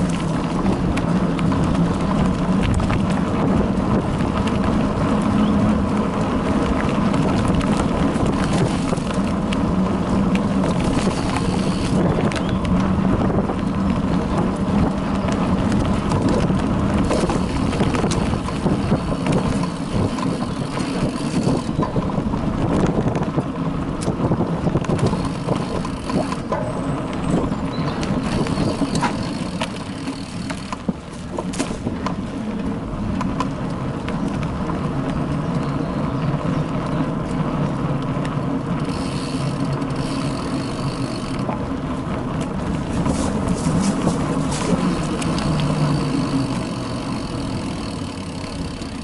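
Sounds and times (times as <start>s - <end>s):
bicycle tyres rumbling: 0.0s - 49.0s
bike clicks and rattles: 0.0s - 49.0s.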